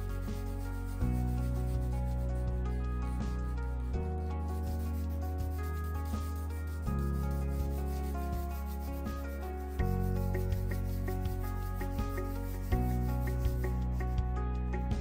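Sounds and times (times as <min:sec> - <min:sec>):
sanding canvas: 0:00.0 - 0:14.1
background music chords: 0:00.0 - 0:15.0.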